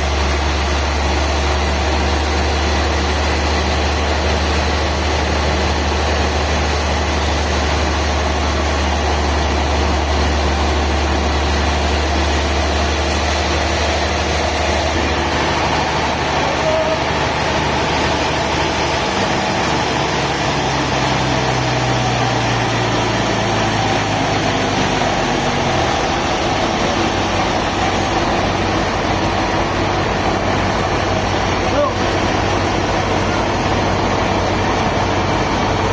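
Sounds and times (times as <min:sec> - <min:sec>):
heavy engine idling: 0:00.0 - 0:35.9.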